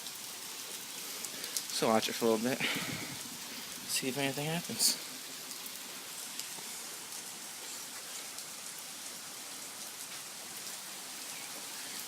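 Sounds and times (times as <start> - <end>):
heavy rain pouring: 0.0 - 12.0
raindrops pattering on surfaces: 0.0 - 12.0.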